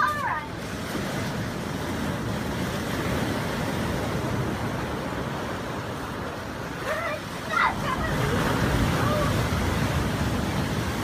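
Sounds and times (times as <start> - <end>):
ocean surf breaking on rocks: 0.0 - 11.0.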